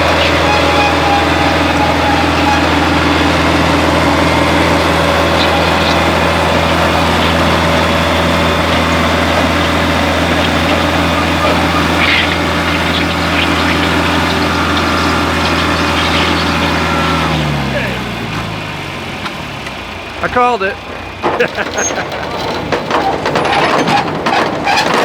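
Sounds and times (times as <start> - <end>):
tractor engine droning under load: 0.0 - 25.0.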